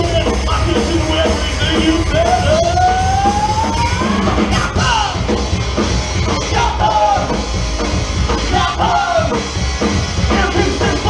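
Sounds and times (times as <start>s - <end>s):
drum kit beat: 0.0s - 11.0s
rock band playing loud: 0.0s - 11.0s.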